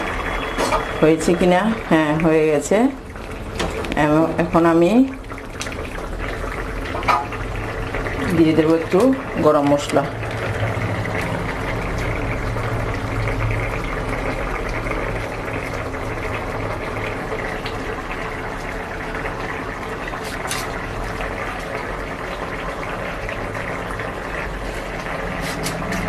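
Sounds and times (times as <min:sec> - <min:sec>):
curry bubbling at a boil: 0:00.0 - 0:26.0.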